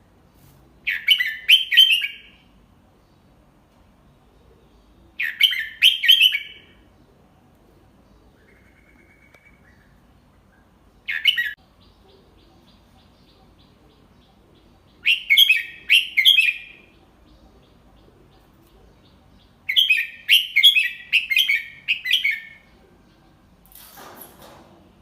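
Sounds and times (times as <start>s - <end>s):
bird singing: 0.9s - 3.3s, 4.1s - 7.2s, 8.0s - 23.6s.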